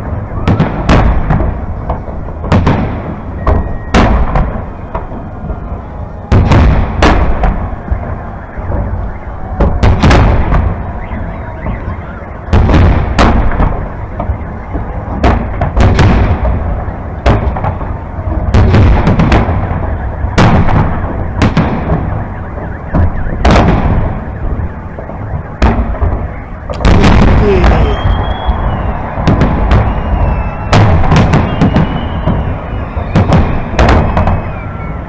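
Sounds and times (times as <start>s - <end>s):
continuous low rumble: 0.0s - 35.0s.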